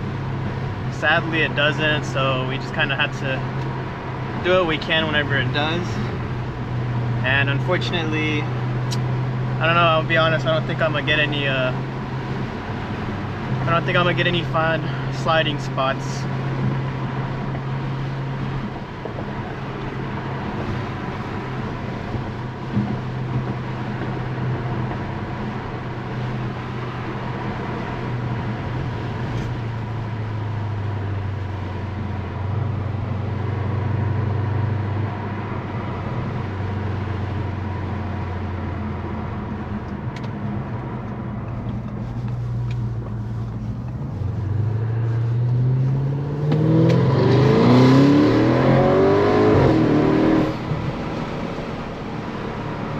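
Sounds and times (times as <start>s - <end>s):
car engine low note: 0.0s - 52.9s
tyre and road noise: 0.0s - 52.9s.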